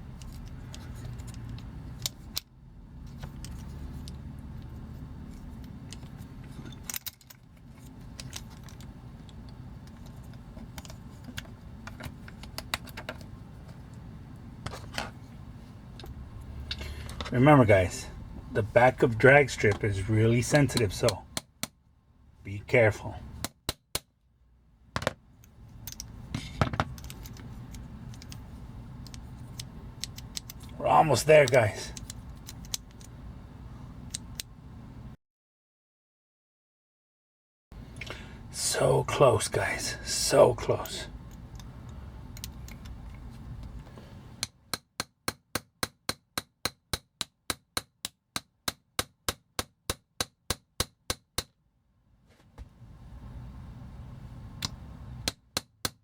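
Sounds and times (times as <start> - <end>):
low steady hum: 0.0 - 35.2, 37.7 - 44.9, 51.6 - 56.0.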